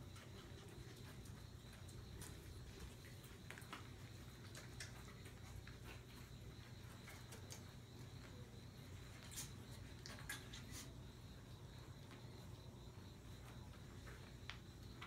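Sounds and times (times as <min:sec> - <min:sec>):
puppies scratching and ticking: 0:00.0 - 0:15.0.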